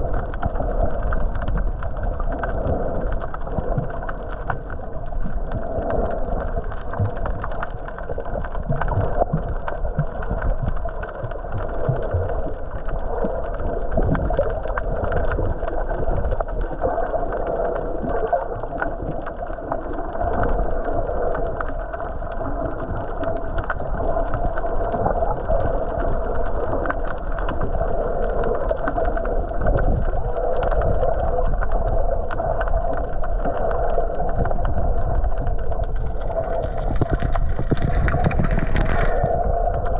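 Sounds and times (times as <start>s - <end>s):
faint underwater crackling: 0.0s - 39.9s
underwater rumble and hum: 0.0s - 39.9s.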